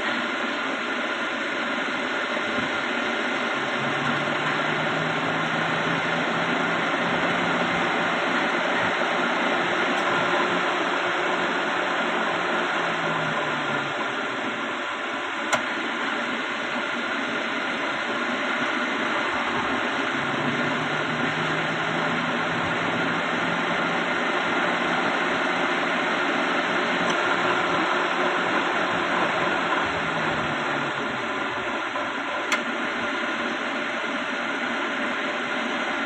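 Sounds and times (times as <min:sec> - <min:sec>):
car engine idling: 0:00.1 - 0:36.0.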